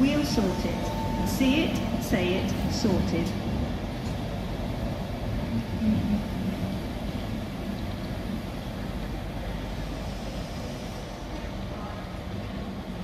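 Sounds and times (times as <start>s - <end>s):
train hum: 0.0s - 13.0s
train wheels rumbling on rail: 0.0s - 13.0s.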